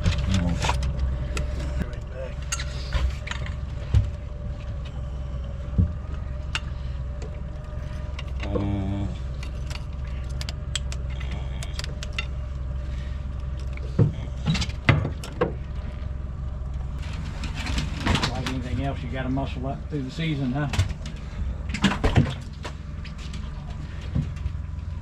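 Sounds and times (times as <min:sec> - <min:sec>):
boat motor running: 0:00.0 - 0:25.0.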